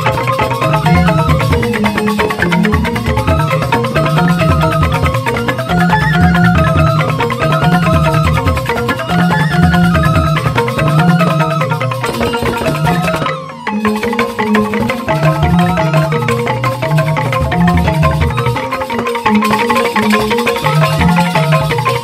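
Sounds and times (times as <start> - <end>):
bamboo xylophones struck with mallets: 0.0 - 22.0.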